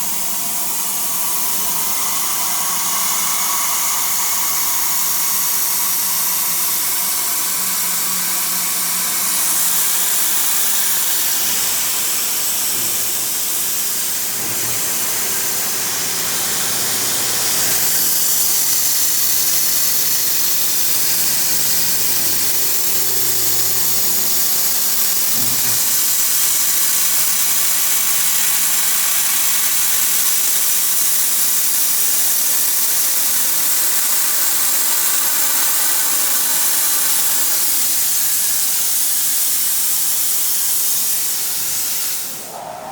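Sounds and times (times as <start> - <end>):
machine hissing loudly: 0.0 - 42.9.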